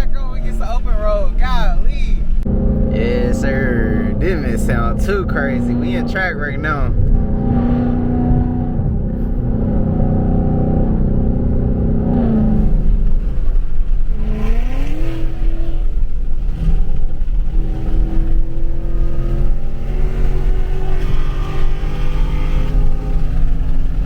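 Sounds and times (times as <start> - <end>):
car exhaust droning: 0.0 - 24.0.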